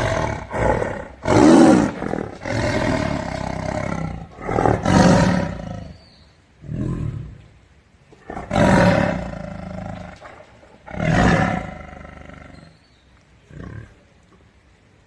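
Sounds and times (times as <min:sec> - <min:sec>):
tiger roaring: 0:00.0 - 0:06.0, 0:06.6 - 0:07.5, 0:08.2 - 0:12.8, 0:13.5 - 0:14.1.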